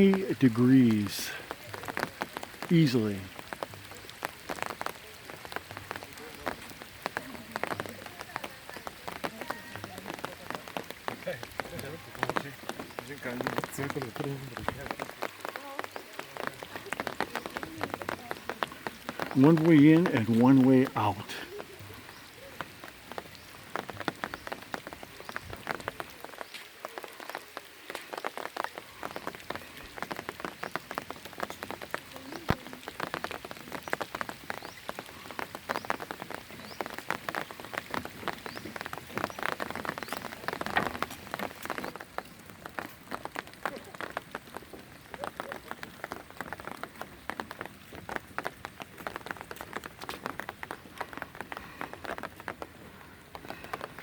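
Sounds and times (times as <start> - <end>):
rain on hard surface: 0.0 - 54.0.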